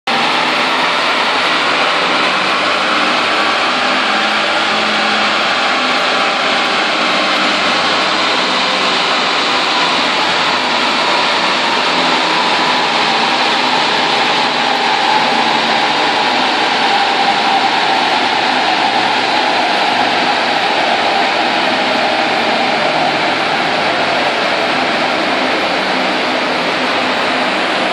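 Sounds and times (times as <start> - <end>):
diesel engine running hard: 0.1 - 27.9
tyres spinning dyno rollers: 0.1 - 27.9.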